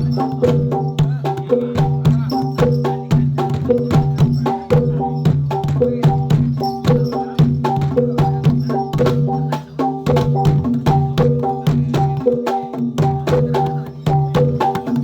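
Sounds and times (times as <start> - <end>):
drum strokes: 0.0 - 15.0
tuned percussion melody: 0.0 - 15.0.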